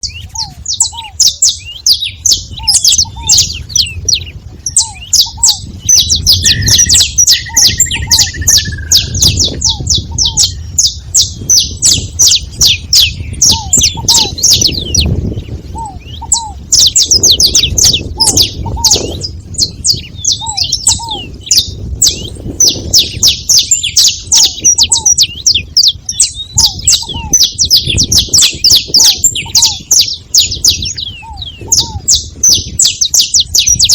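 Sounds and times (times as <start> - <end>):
finches chirping rapidly: 0.0 - 33.9
low hooked bird call: 0.0 - 33.9.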